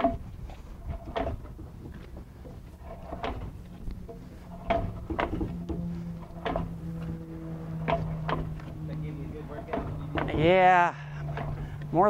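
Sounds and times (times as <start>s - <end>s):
propeller turned by hand clunking: 0.0s - 12.0s.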